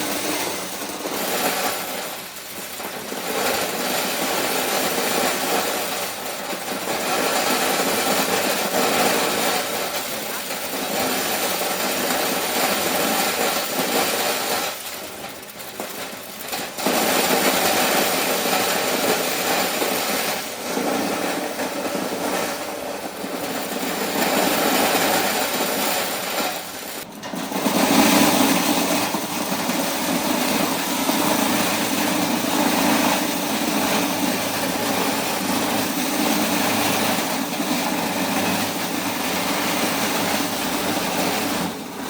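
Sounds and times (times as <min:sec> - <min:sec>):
corn-shelling machine running: 0:00.0 - 0:42.0.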